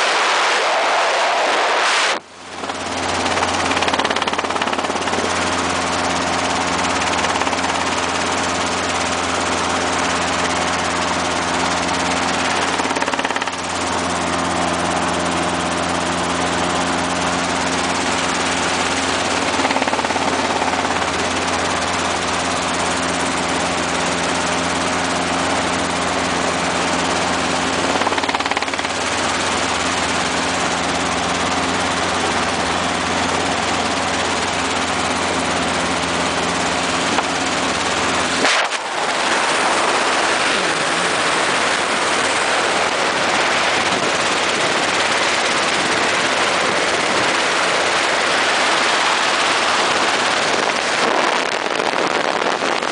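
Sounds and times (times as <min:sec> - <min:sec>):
helicopter engine humming: 0:00.0 - 0:52.9
helicopter rotors whirring: 0:00.0 - 0:52.9.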